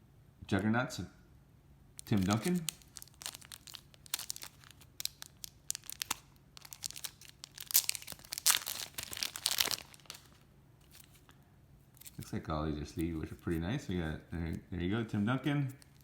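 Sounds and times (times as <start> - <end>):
plastic card sleeves crinkling: 2.0 - 16.0.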